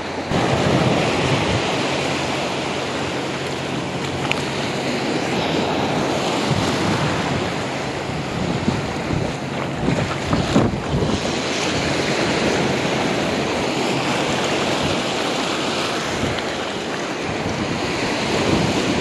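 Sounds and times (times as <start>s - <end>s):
waves breaking on beach: 0.0s - 19.0s.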